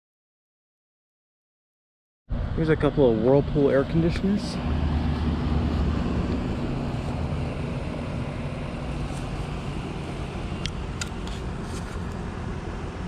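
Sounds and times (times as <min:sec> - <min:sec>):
compressor hum: 0:02.3 - 0:13.0
fan whoosh: 0:02.3 - 0:13.0.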